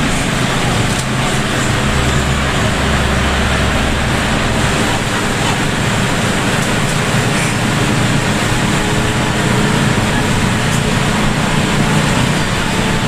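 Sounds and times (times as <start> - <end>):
bus engine running: 0.0 - 13.0
rain on bus: 0.0 - 13.0
tyres hissing on wet road: 0.0 - 13.0.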